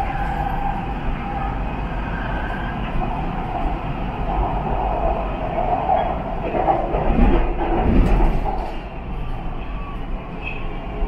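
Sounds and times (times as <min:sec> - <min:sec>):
high train whine: 0:00.0 - 0:11.0
train wheels rumbling on rails: 0:00.0 - 0:11.0.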